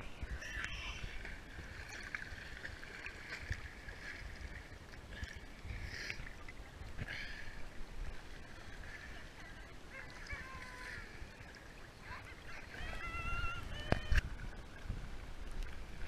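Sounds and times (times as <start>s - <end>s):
water lapping and sloshing: 0.0s - 16.0s
water splashes: 0.0s - 16.0s.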